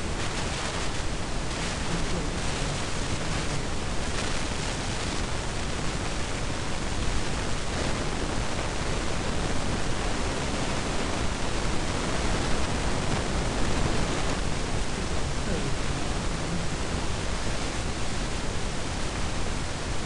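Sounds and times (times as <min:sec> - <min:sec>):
recording hiss: 0:00.0 - 0:20.0.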